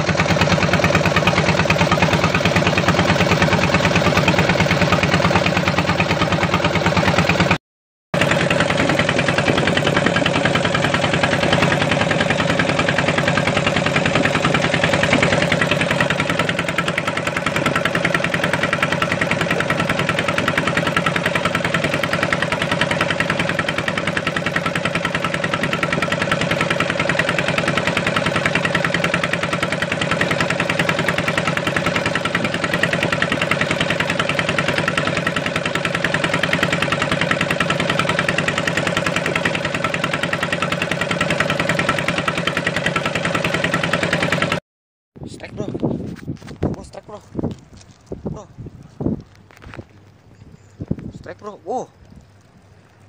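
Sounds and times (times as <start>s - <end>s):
boat engine chugging: 0.0s - 7.6s, 8.2s - 44.6s, 49.9s - 53.0s.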